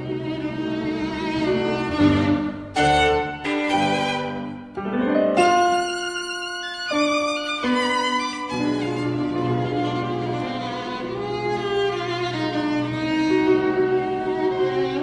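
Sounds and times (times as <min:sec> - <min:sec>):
slow violin melody: 0:00.0 - 0:15.0
soft string accompaniment: 0:00.0 - 0:15.0.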